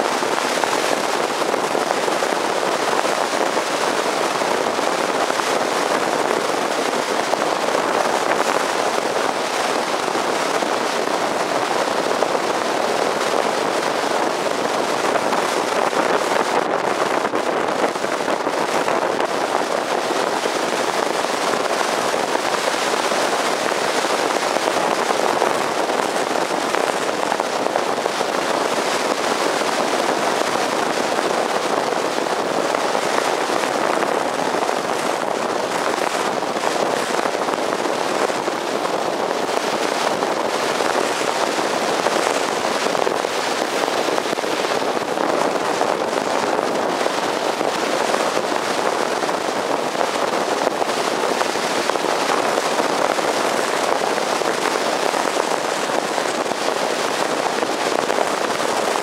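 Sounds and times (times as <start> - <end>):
wind and road noise on microphone: 0.0 - 59.0.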